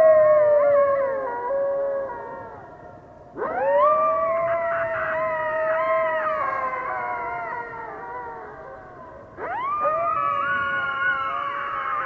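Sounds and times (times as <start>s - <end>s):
coyotes howling: 0.0s - 12.0s.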